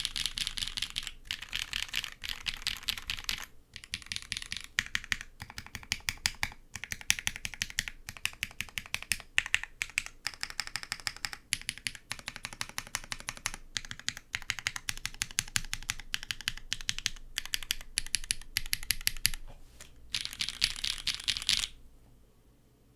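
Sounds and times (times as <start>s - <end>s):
mechanical keyboard typing: 0.0s - 19.4s, 20.1s - 21.8s.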